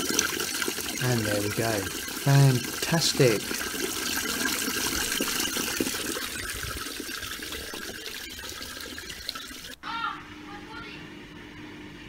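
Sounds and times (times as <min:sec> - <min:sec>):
water pouring onto drain grate: 0:00.0 - 0:09.8.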